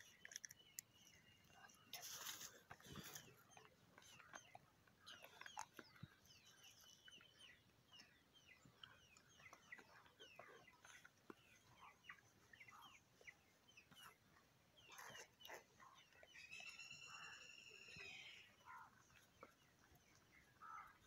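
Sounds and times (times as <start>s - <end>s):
faint bird chirping: 0.0s - 21.0s.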